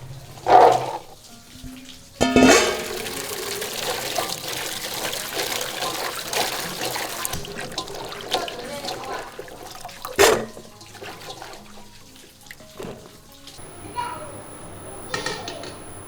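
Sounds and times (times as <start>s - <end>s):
tap water running and splashing: 0.0s - 16.0s.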